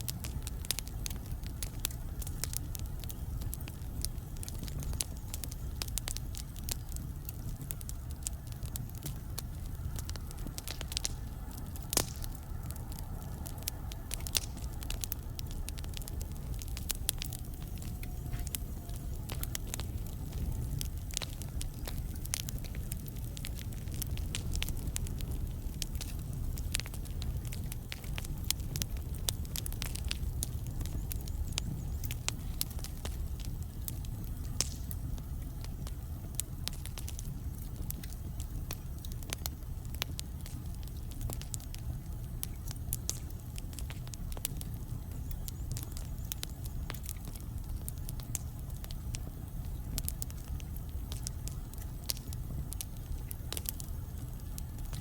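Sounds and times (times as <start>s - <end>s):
low rumble of fire: 0.0s - 55.0s
wood fire crackling and popping: 0.0s - 55.0s.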